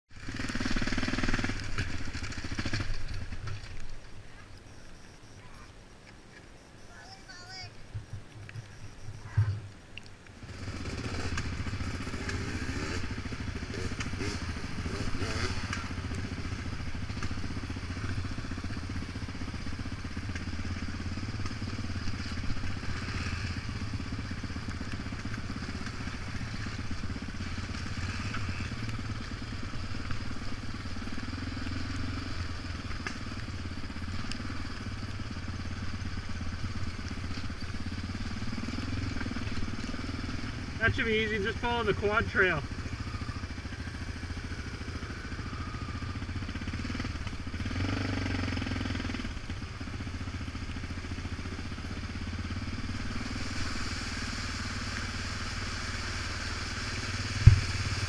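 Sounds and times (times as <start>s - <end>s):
atv engine on gravel: 0.1s - 58.0s
dirt bike engine: 0.1s - 58.0s.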